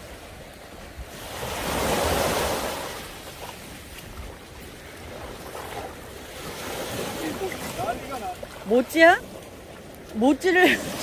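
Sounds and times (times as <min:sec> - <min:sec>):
waves washing on sandy shore: 0:00.0 - 0:11.0.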